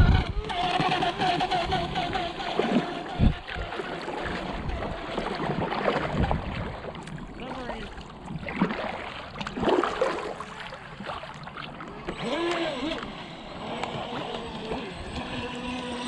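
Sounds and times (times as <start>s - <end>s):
kayak paddle strokes: 0.0s - 16.0s
water lapping against hull: 0.0s - 16.0s.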